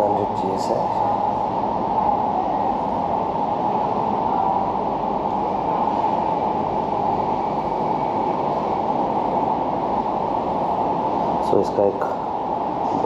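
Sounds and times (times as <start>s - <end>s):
air conditioning rush: 0.0s - 13.0s.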